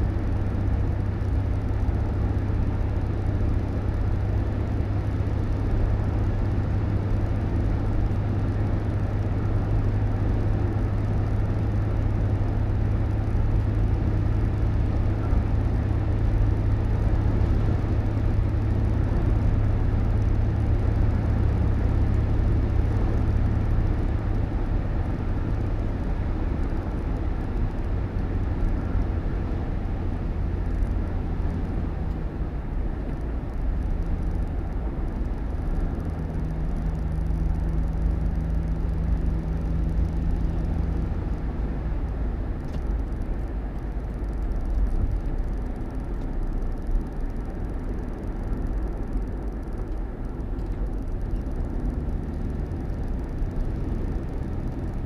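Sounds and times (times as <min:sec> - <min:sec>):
engine and road noise: 0:00.0 - 0:55.0.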